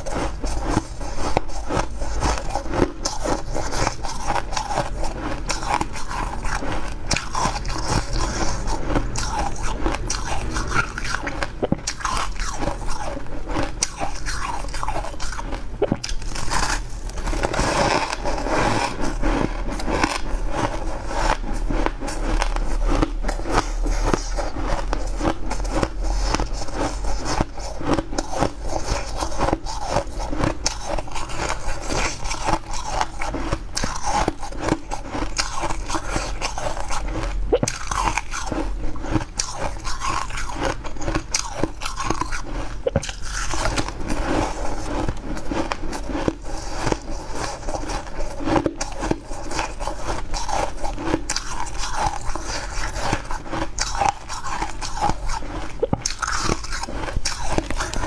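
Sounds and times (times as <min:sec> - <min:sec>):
biting and chewing ice: 0:00.0 - 0:58.0.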